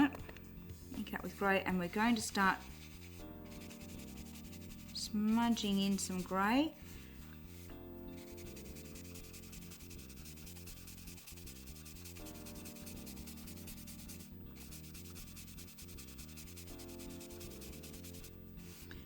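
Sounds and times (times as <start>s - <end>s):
brush scrubbing on card: 2.6s - 18.9s.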